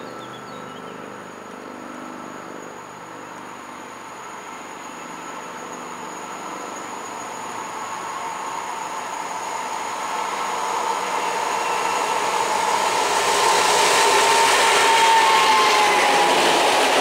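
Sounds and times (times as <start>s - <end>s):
diesel locomotive engine: 0.0s - 17.0s
train running on rails: 1.0s - 17.0s
steady whine: 1.2s - 17.0s.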